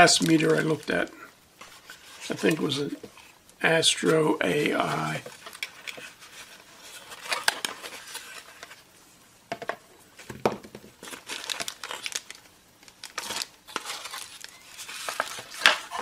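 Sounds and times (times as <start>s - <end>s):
cardboard and plastic rustling: 0.0s - 3.3s, 4.0s - 8.9s, 9.5s - 16.0s.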